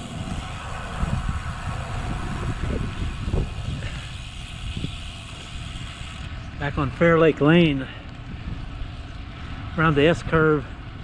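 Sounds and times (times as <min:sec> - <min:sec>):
road noise hiss: 0:00.0 - 0:11.0
wind buffeting microphone: 0:00.0 - 0:11.0.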